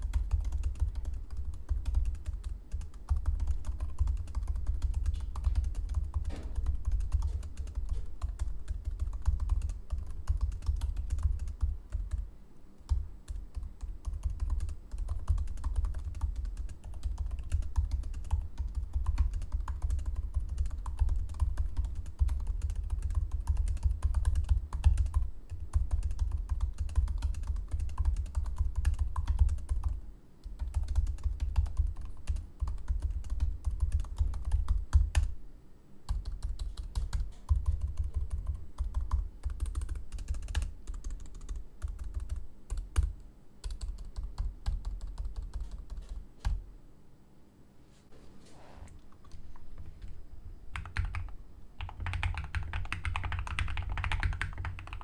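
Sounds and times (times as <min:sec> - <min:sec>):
laptop keyboard typing: 0:00.0 - 0:35.4, 0:36.1 - 0:46.6, 0:50.7 - 0:55.0.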